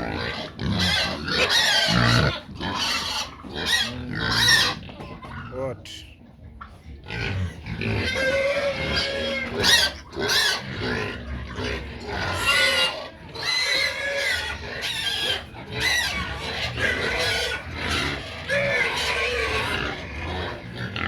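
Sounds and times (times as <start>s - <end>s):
pigs squealing: 0.0s - 5.7s, 6.7s - 21.0s.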